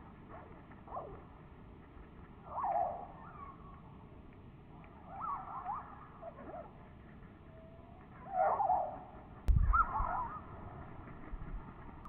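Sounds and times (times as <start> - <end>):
songbirds chirping: 0.9 - 11.1.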